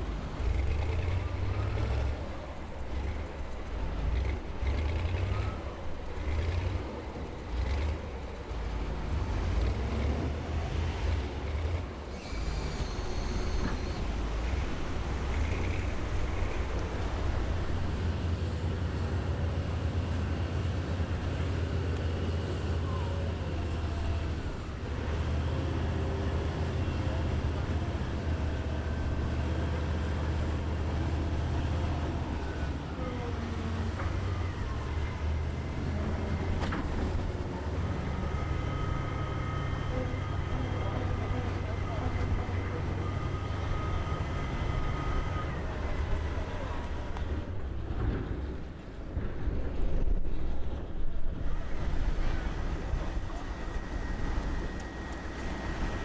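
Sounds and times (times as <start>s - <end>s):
heavy diesel engines rumbling: 0.0s - 56.0s.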